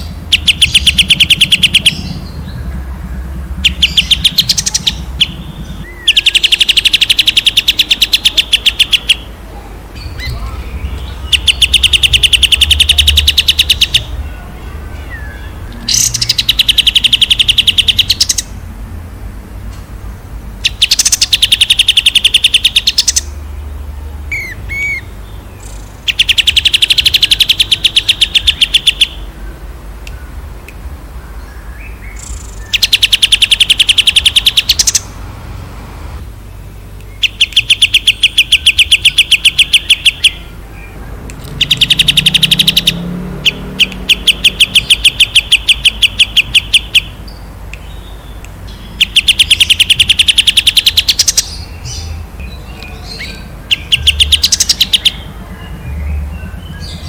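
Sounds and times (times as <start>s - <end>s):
songbird trilling: 0.0s - 18.6s, 20.6s - 23.7s, 24.3s - 30.3s, 31.1s - 35.2s, 36.9s - 57.0s.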